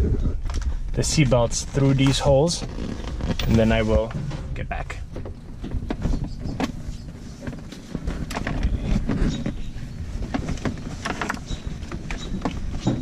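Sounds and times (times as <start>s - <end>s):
leather seat rustling and creaking: 0.4s - 13.0s.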